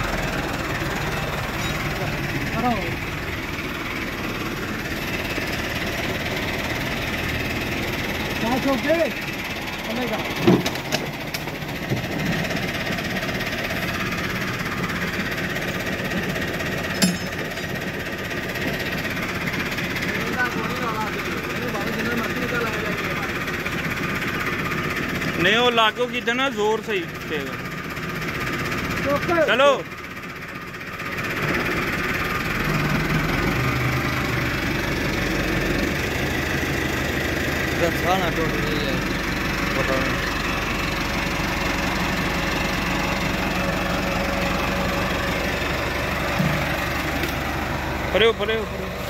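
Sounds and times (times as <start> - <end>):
diesel tractor engine idling: 0.0 - 49.0.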